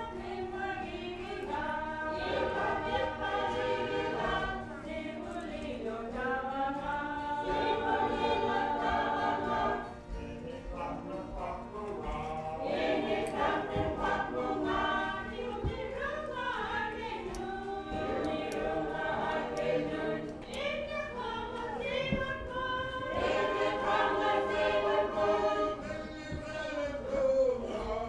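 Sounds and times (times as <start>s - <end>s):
group singing a hymn: 0.0s - 28.0s.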